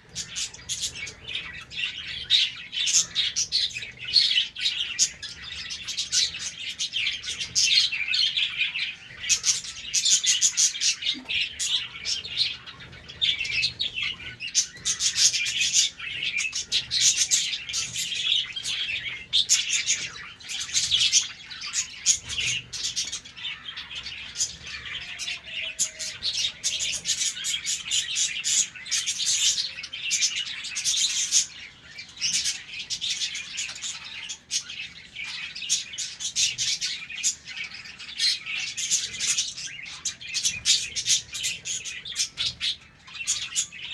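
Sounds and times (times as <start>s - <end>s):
budgerigars chirping and chattering: 0.0s - 43.9s.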